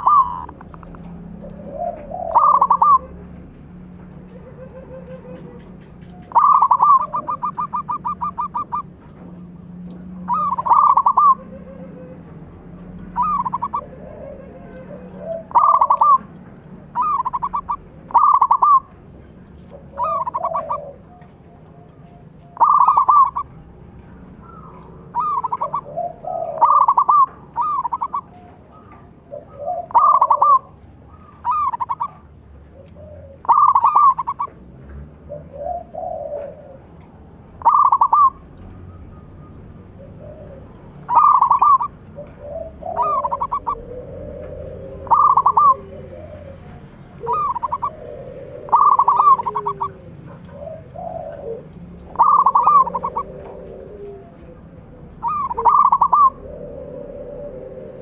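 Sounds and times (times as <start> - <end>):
dove cooing: 0.0 - 3.2, 4.2 - 58.0.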